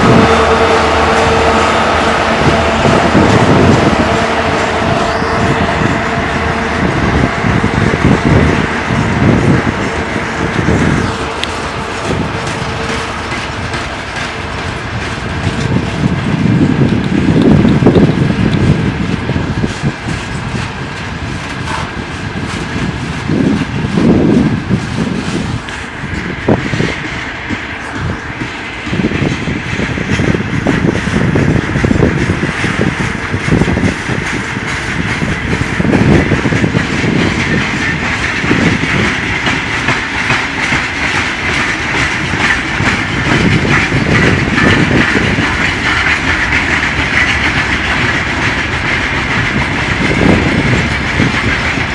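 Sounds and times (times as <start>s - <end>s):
diesel locomotive engine rumbling: 0.0s - 51.9s
train wheels clattering on rails: 0.0s - 51.9s.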